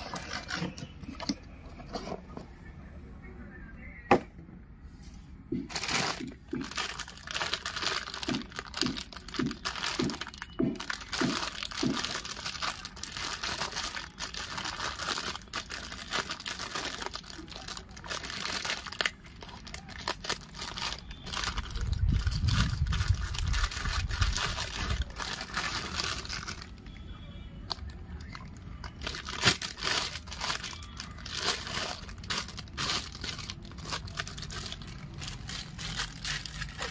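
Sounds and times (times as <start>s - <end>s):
plastic bag crinkling: 0.0s - 2.2s, 5.6s - 26.9s, 27.7s - 36.9s.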